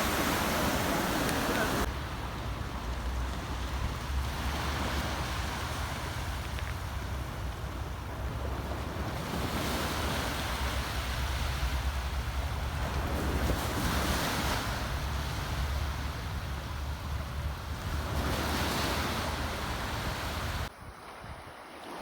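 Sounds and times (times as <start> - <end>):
sea waves washing in: 0.0 - 20.7
wind rumbling on microphone: 0.0 - 21.7.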